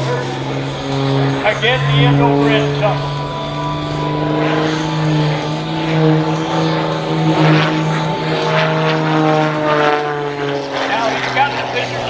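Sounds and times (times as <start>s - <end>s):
propeller plane engine: 0.0s - 12.0s.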